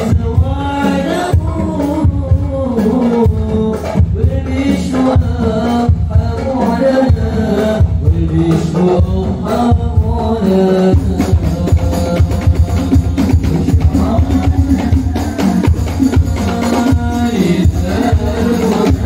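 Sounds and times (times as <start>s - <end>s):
group of men singing: 0.0s - 19.0s
hand drums beating: 0.0s - 19.0s.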